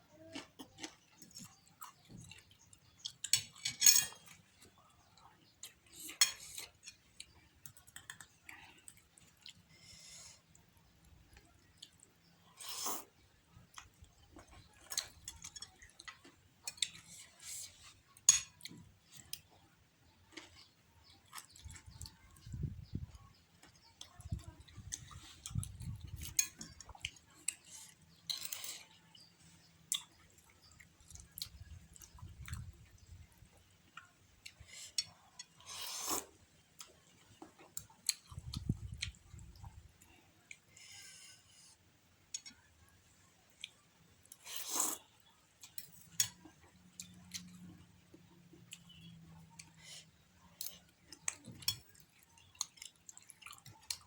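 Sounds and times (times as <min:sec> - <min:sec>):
person chewing noodles: 0:00.2 - 0:19.6, 0:23.3 - 0:42.8, 0:43.5 - 0:54.0.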